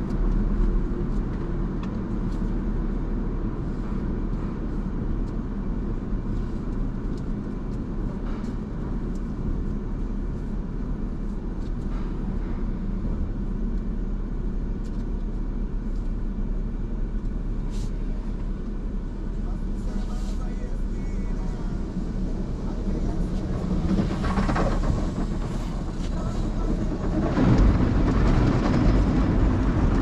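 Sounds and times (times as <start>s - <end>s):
car wash rumbling: 0.0s - 30.0s.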